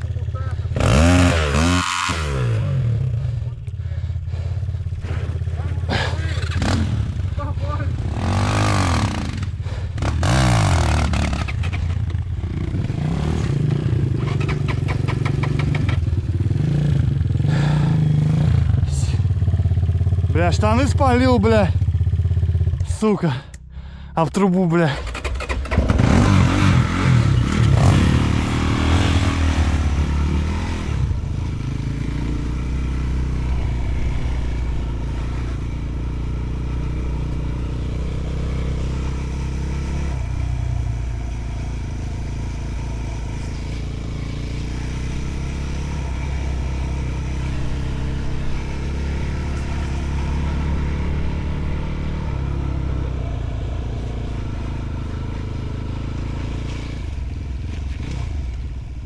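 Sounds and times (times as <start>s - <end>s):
motorcycle engine revving: 0.0s - 24.1s, 24.8s - 59.0s.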